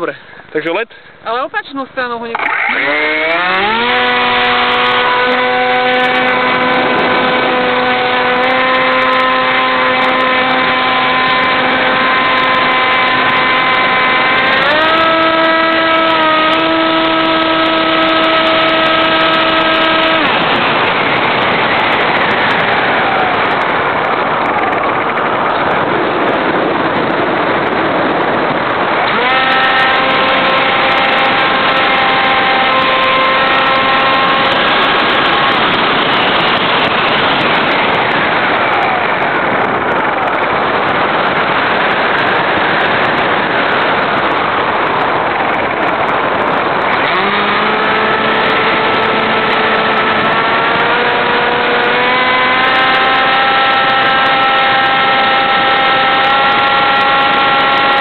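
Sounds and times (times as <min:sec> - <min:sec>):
electric motor and propeller whine: 0:02.0 - 0:58.0
rushing air noise: 0:02.4 - 0:58.0.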